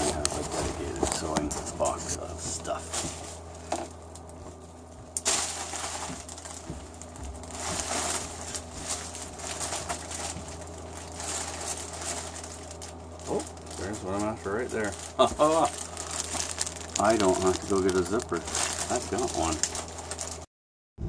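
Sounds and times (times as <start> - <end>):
plastic bag rustling: 0.0 - 20.5
steady low hum: 0.0 - 20.5.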